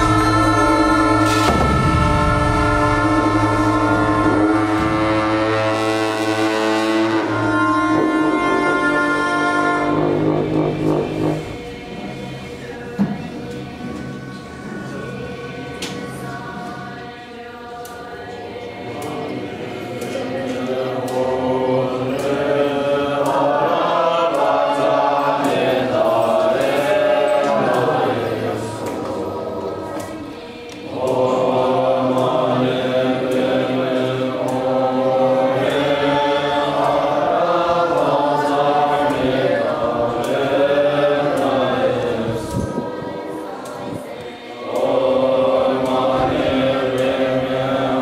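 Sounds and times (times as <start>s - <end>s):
monks chanting in unison: 0.0s - 48.0s.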